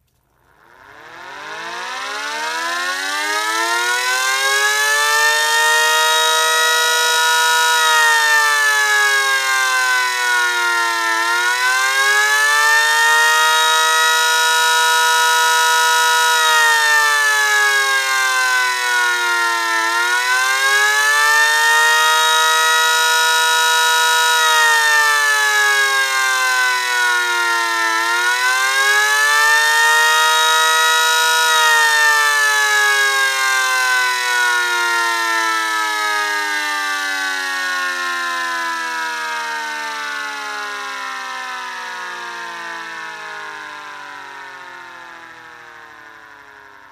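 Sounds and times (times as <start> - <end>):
electric siren wailing: 0.5 - 46.9.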